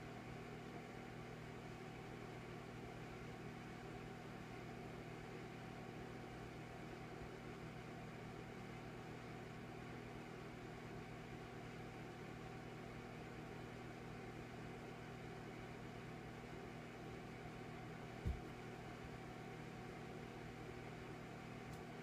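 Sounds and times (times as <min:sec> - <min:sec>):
electric fireplace humming: 0:00.0 - 0:22.0.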